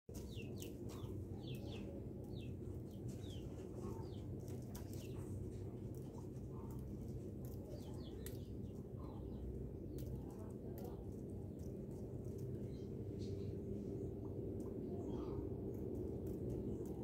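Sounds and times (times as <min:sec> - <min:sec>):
small birds chirping: 0:00.1 - 0:17.0
steady low hum: 0:00.1 - 0:17.0.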